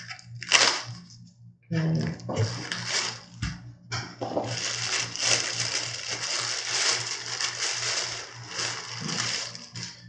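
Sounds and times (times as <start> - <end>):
plastic bag crinkling: 0.0 - 1.0, 2.1 - 3.5, 4.2 - 10.0.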